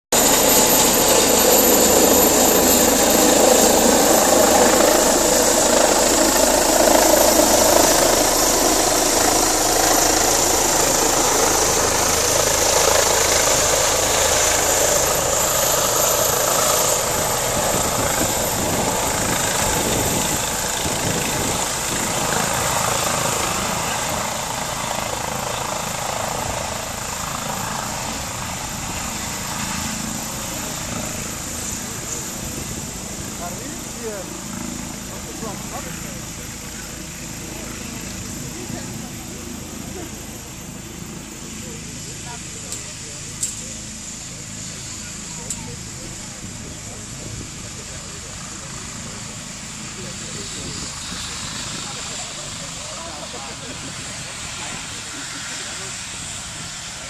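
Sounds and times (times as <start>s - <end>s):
helicopter turbine and rotor: 0.1s - 57.0s.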